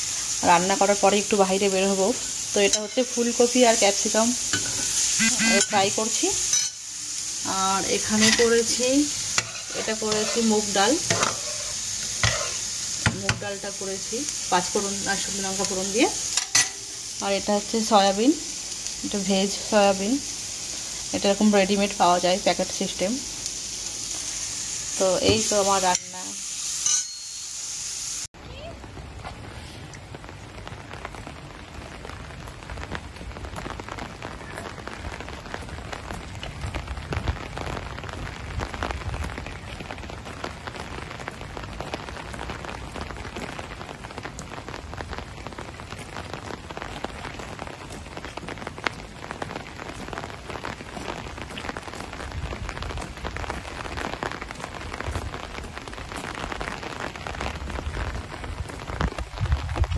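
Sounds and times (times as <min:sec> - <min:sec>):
heavy rain on pavement and cars: 0:00.0 - 0:25.9, 0:28.3 - 0:59.9.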